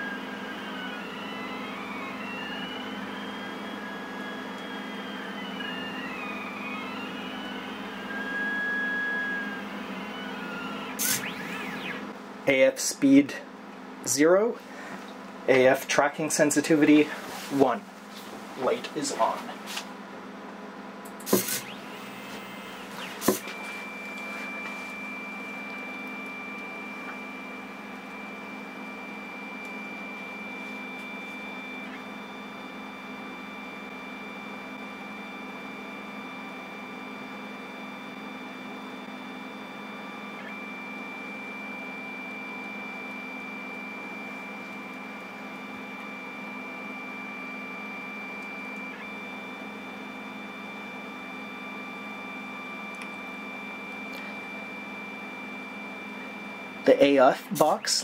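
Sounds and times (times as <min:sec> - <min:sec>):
stepper motors whining: 0:00.0 - 0:12.2, 0:21.1 - 0:58.0.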